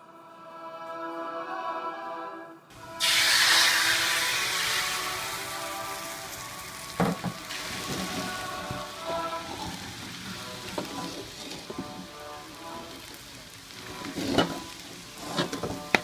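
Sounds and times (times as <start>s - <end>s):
light background music: 0.0s - 16.0s
egg sizzling in hot wok: 2.7s - 16.0s.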